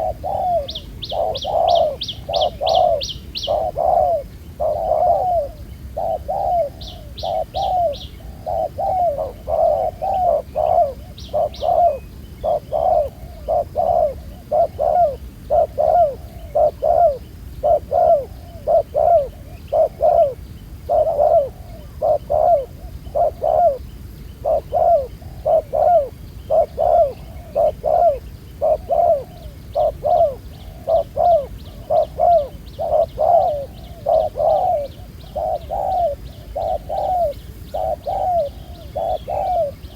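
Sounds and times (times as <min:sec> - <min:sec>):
doves cooing: 0:00.0 - 0:39.9
small bird chirping: 0:00.0 - 0:39.9.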